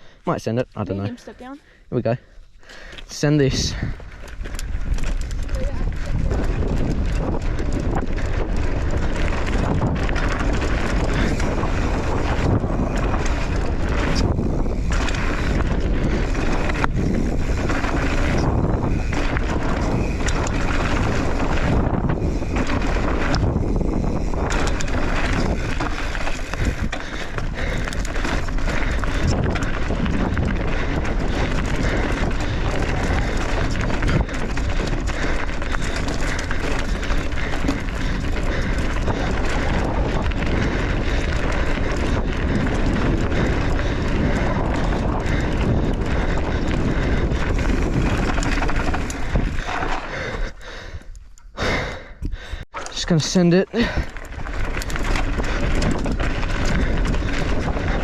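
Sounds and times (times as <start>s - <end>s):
bike tyres and frame rattling: 1.1s - 58.0s
wind rushing over microphone: 3.4s - 58.0s.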